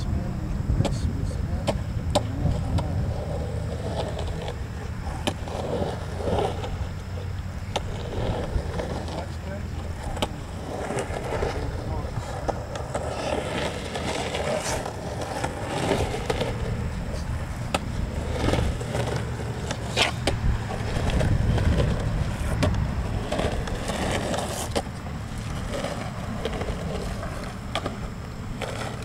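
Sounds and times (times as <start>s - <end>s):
wheels rolling on concrete: 0.0s - 29.0s.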